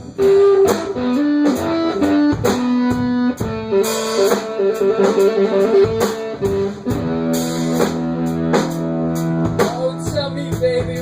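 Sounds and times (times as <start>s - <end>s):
drum kit strokes: 0.0s - 11.0s
electric guitar riff: 0.0s - 11.0s.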